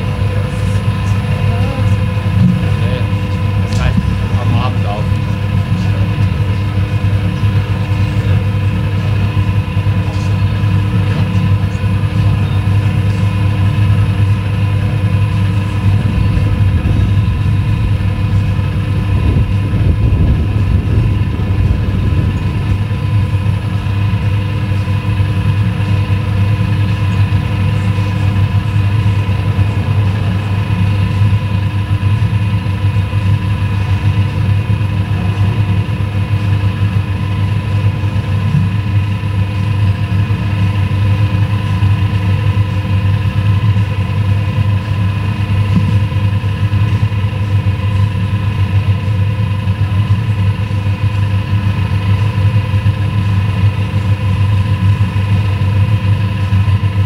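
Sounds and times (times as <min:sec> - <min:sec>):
motorway traffic rumble: 0:00.0 - 0:57.0.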